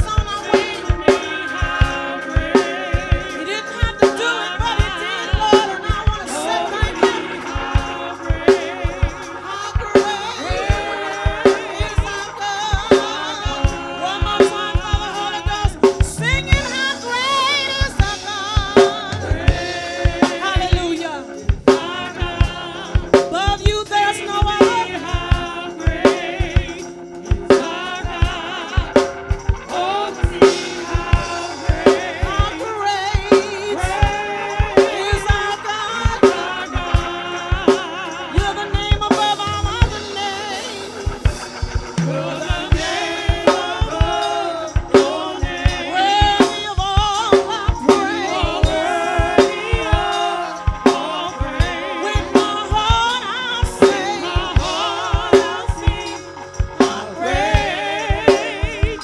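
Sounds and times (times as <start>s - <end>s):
drum kit steady beat: 0.0s - 59.0s
gospel singing: 0.0s - 59.0s.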